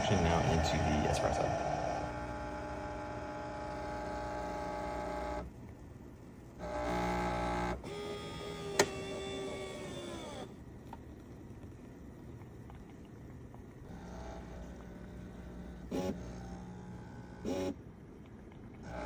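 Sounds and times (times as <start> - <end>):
espresso machine pump humming: 0.0 - 19.0.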